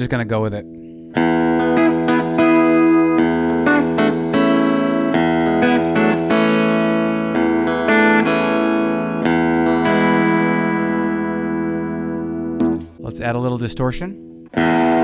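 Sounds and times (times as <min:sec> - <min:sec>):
clean electric guitar with reverb: 0:00.6 - 0:13.2, 0:14.2 - 0:15.0.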